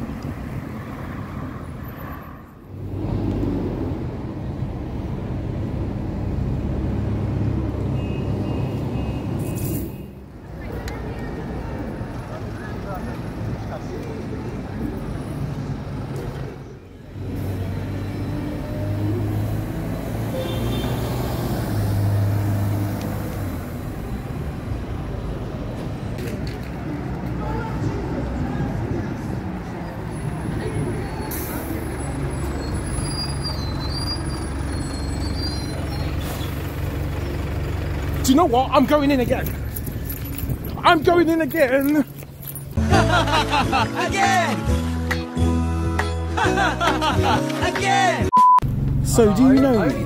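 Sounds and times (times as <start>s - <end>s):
cars passing: 0.0s - 50.0s
street traffic: 0.0s - 50.0s
bus diesel engine humming: 2.7s - 50.0s.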